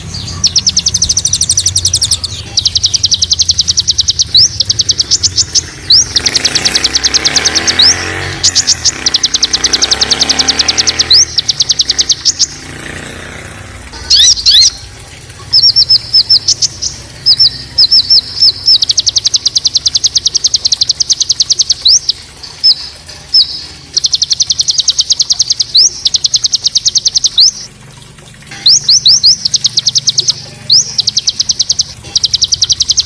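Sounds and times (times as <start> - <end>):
songbird rapid-fire calls: 0.0 - 13.1, 14.0 - 14.9, 15.5 - 27.7, 28.6 - 33.0.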